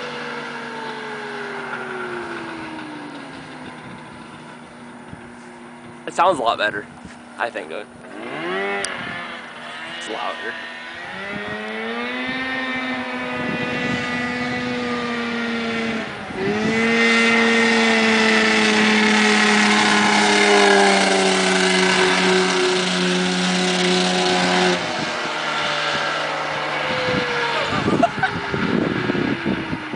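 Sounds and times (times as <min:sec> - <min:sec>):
two-stroke engine revving: 0:00.0 - 0:29.9
wind buffeting microphone: 0:00.8 - 0:29.9.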